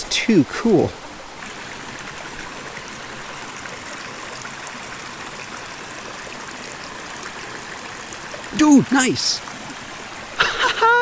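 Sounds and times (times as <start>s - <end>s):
stream running over stones: 0.0s - 11.0s.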